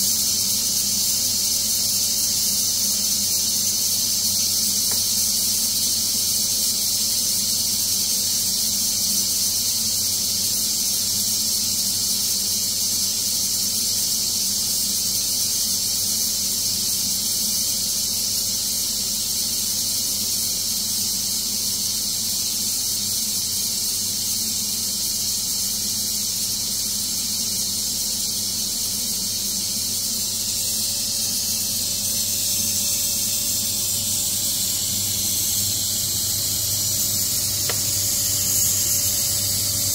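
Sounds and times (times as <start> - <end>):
steam hissing from valve: 0.0 - 39.9.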